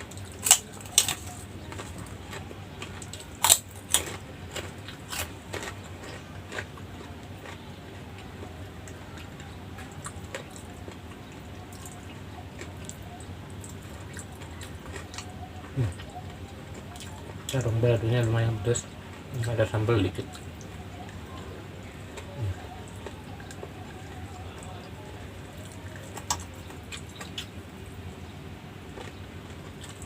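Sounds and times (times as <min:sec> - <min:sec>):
chewing with crunches: 0:00.0 - 0:30.0
low steady hum: 0:00.0 - 0:30.0.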